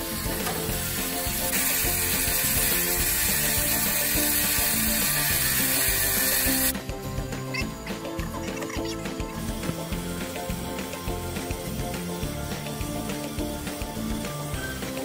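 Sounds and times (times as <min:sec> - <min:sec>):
clockwork mechanism ratcheting whir: 0:00.0 - 0:06.8, 0:07.4 - 0:15.0
background music: 0:00.0 - 0:15.0.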